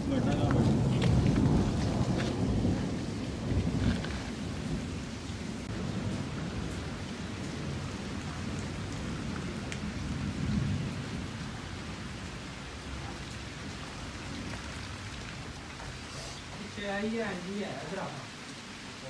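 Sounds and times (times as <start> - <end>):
low rumble of thunder: 0.0 - 17.9
steady rain: 0.0 - 19.0.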